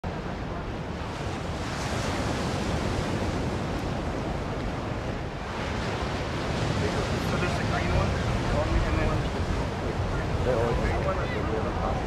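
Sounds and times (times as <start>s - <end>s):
ocean surf on beach: 0.0s - 12.0s.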